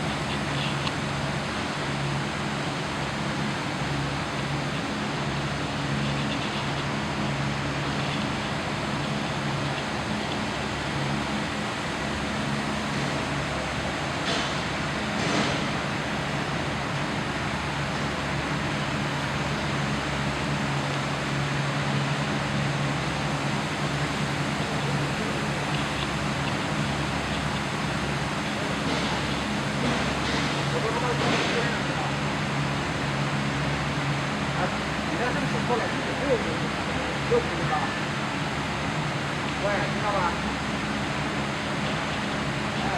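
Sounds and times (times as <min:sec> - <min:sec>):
heat pump humming and rushing: 0:00.0 - 0:42.9.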